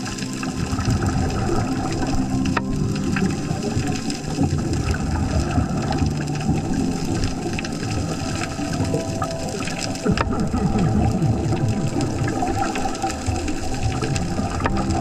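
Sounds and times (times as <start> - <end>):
water rushing and churning: 0.0 - 15.0.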